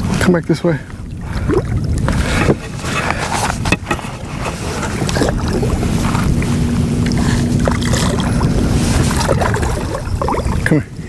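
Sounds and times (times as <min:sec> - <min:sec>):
faint steady hum: 0:00.0 - 0:11.0
water lapping: 0:00.0 - 0:11.0
wind buffeting microphone: 0:00.0 - 0:11.0.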